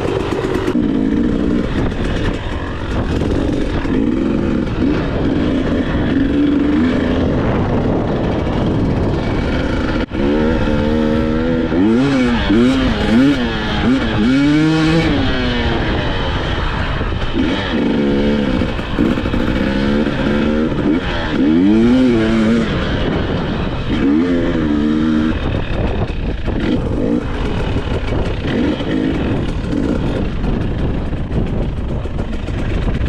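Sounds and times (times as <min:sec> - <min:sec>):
dirt bike engine revving: 0:00.0 - 0:33.0
steady rushing noise: 0:00.0 - 0:33.0.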